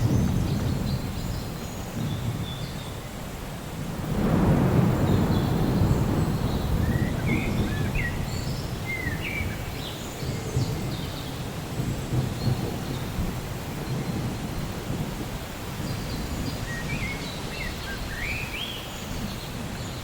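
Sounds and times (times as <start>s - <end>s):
low rumble of thunder: 0.0s - 20.0s
steady rain: 0.0s - 20.0s.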